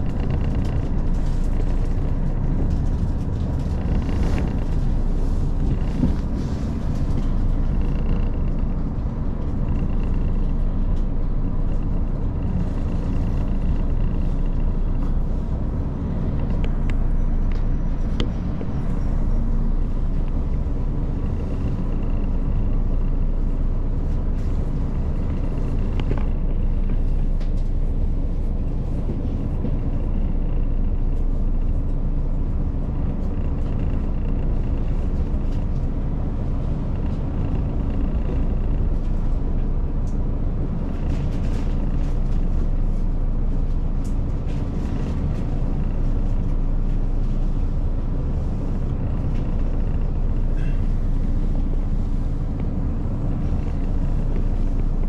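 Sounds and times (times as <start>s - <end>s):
railcar engine and wheels rumbling: 0.0s - 55.0s.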